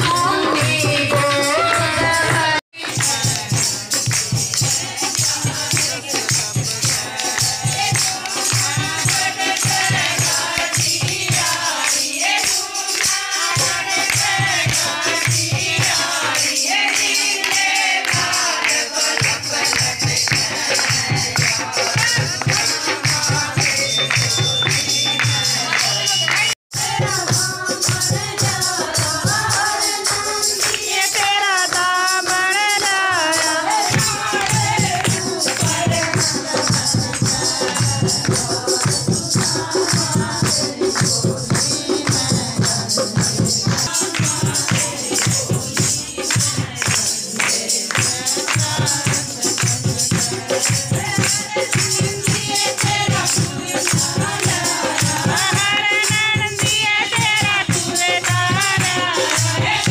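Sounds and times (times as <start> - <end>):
hand clapping: 0.0 - 59.9
jingling percussion: 0.0 - 59.9
women singing devotional song: 0.0 - 59.9.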